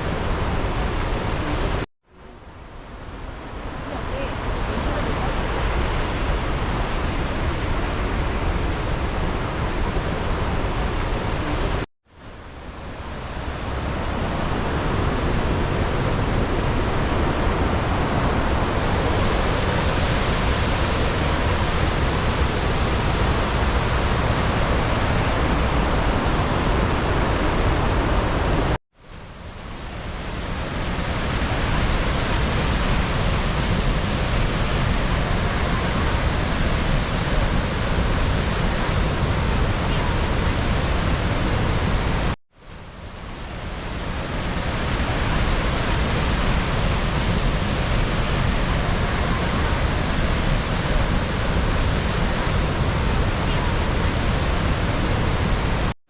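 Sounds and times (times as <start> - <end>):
waterfall roaring: 0.0 - 1.9, 3.0 - 11.9, 12.6 - 28.8, 29.4 - 55.9.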